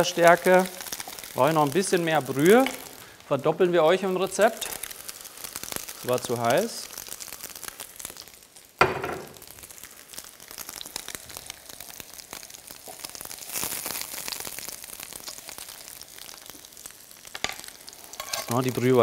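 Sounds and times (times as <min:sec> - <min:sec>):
sauce sizzling and bubbling in pan: 0:00.0 - 0:19.0.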